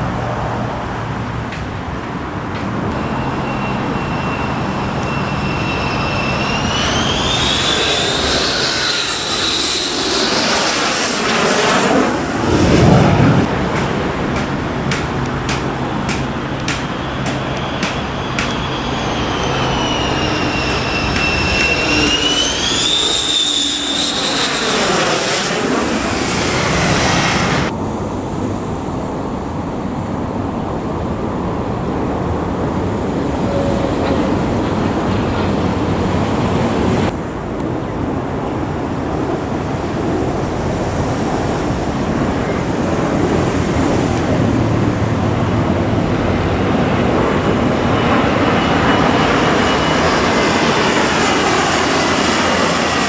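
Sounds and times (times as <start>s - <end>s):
fighter jet engines whining: 0.0s - 53.0s
turboprop plane droning: 0.0s - 53.0s.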